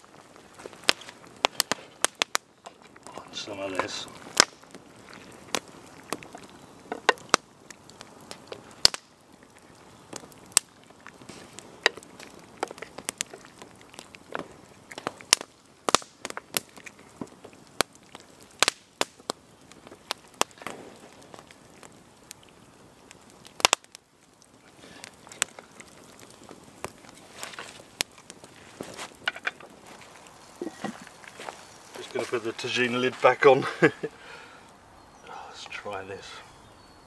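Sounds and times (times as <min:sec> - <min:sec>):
campfire crackling and popping: 0:00.0 - 0:37.0
faint steady hiss: 0:00.0 - 0:37.0.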